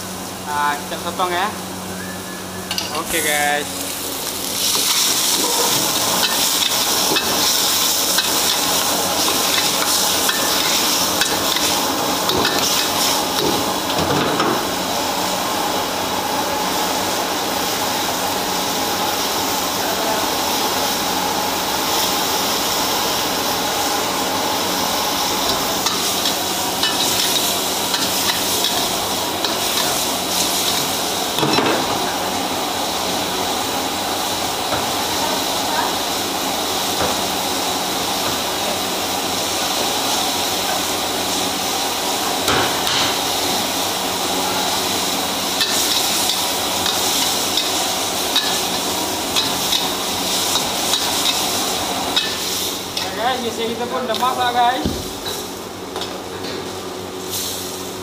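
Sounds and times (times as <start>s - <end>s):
meat sizzling in a wok: 2.5s - 58.0s.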